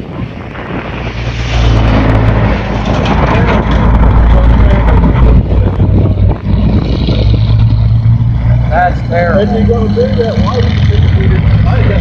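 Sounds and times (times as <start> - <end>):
car engine running: 1.3 - 12.0.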